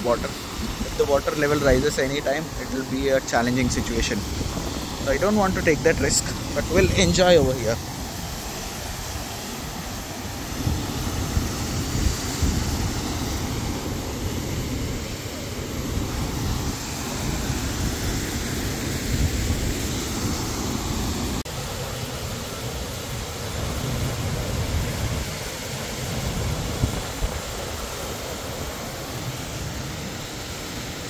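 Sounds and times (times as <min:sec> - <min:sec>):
wind buffeting microphone: 0:00.0 - 0:21.4, 0:23.6 - 0:27.9
waterfall rushing: 0:00.0 - 0:31.0.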